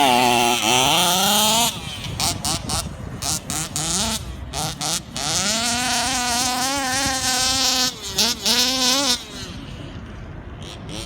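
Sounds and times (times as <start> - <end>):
small two-stroke engine buzzing: 0.0 - 11.0.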